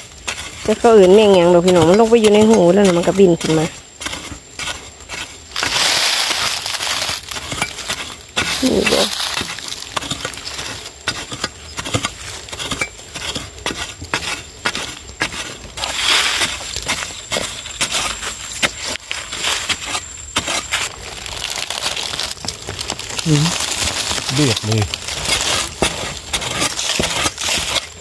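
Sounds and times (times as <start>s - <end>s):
metal spade scraping into soil: 0.0s - 28.0s
rustle of loosened earth and leaves: 0.0s - 28.0s.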